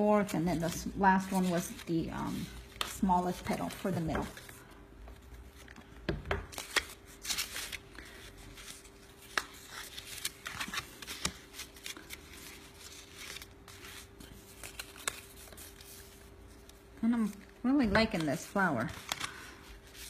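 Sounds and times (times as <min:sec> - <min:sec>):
paper rustling: 0:00.0 - 0:20.0.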